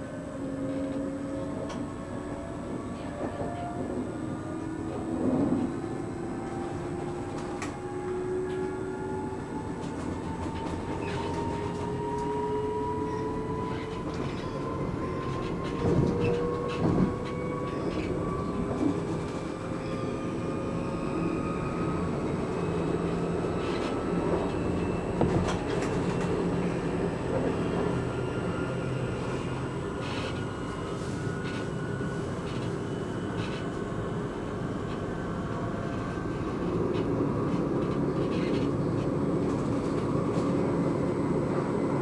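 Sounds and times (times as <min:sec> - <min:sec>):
electric train rumble and motor whine: 0:00.0 - 0:42.0.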